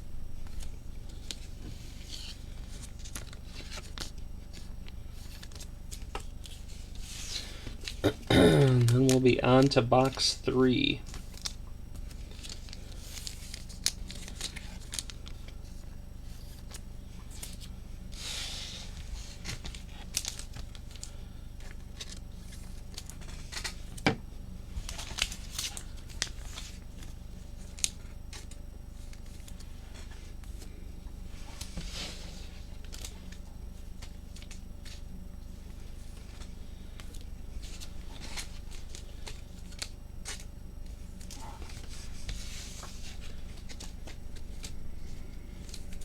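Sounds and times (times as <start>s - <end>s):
steady low hum: 0.0s - 46.0s
card and plastic packaging rustling: 0.3s - 46.0s.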